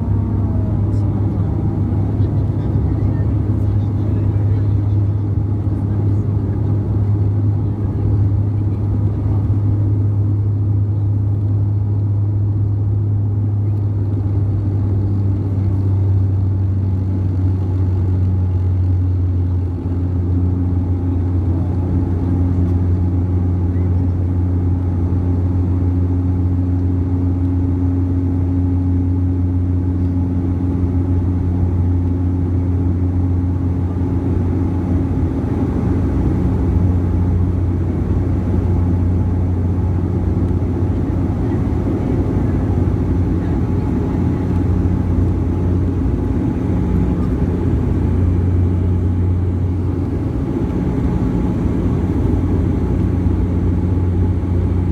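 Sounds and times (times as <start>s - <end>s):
airliner engines humming: 0.0s - 54.9s.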